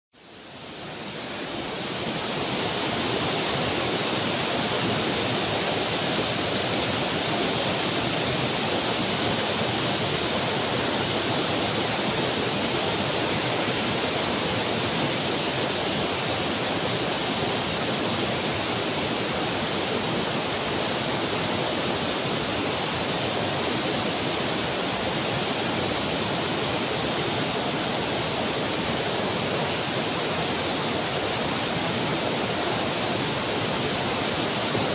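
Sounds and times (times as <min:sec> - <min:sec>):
heavy rain downpour: 0:00.2 - 0:34.9.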